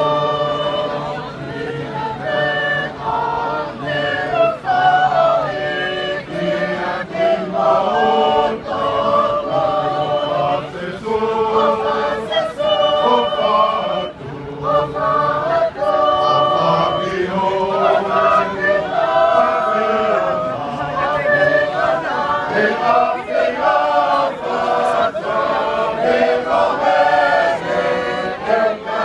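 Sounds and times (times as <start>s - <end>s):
crowd singing in harmony: 0.0s - 29.0s.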